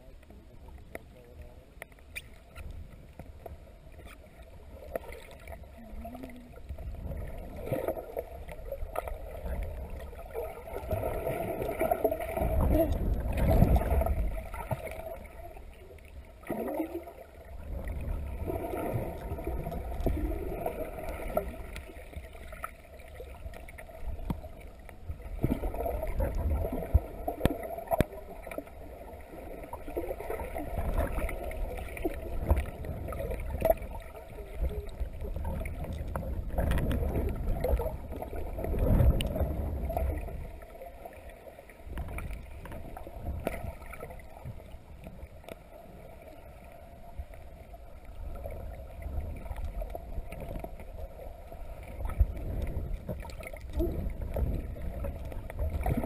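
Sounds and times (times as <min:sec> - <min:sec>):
muffled underwater rumble: 0:00.0 - 0:56.0.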